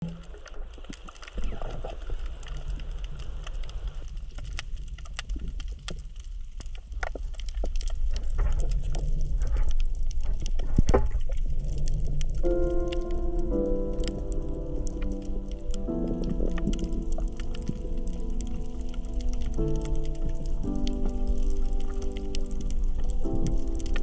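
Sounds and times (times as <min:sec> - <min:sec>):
coral reef clicks and snaps: 0:00.0 - 0:24.0
low underwater rumble: 0:00.0 - 0:24.0.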